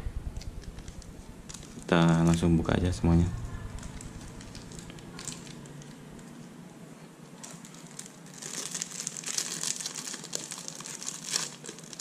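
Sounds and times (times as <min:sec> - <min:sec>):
plastic bag crinkling: 0:00.4 - 0:06.6, 0:07.3 - 0:12.0.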